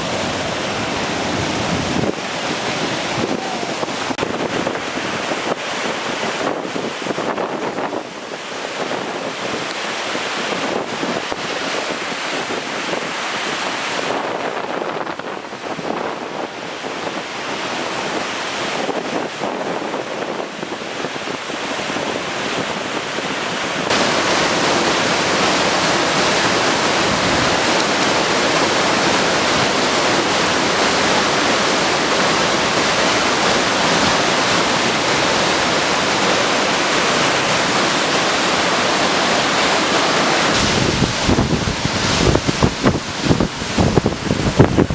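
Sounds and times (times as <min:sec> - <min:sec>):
floodwater rushing roar: 0:00.0 - 0:14.6, 0:20.5 - 0:44.9
wind buffeting microphone: 0:00.0 - 0:44.9.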